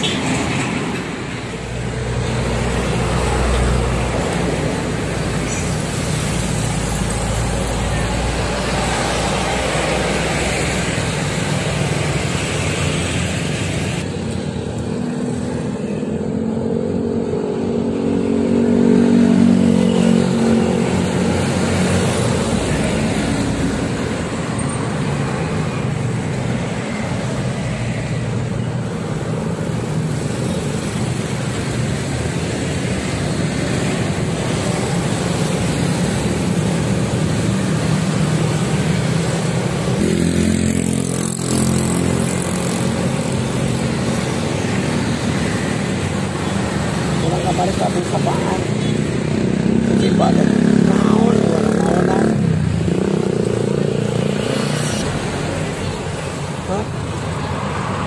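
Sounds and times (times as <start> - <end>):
cars passing: 0.0 - 58.0
motorcycles passing: 0.0 - 58.0.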